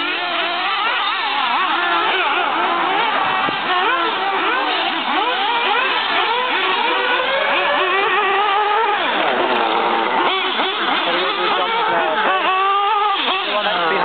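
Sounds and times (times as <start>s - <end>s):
radio-controlled buggy engines revving: 0.0s - 14.0s.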